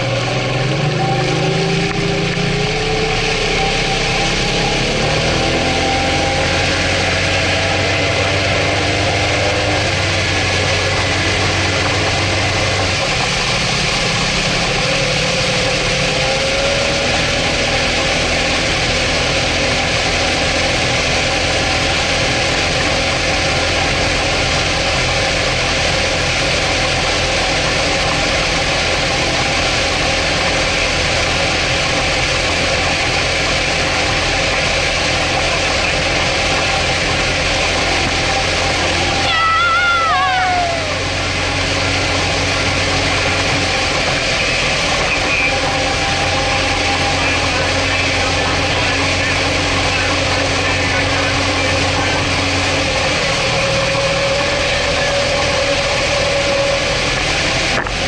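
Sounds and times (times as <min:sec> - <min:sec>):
outboard motor running: 0:00.0 - 0:58.0
wind: 0:00.0 - 0:58.0.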